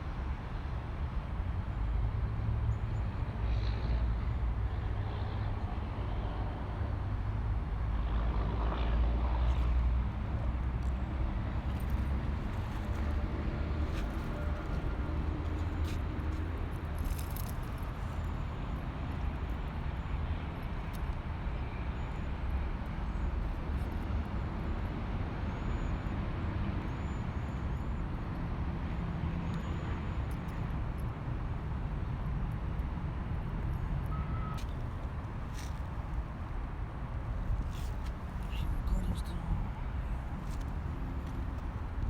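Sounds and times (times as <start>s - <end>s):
city traffic rumble: 0.0s - 42.0s.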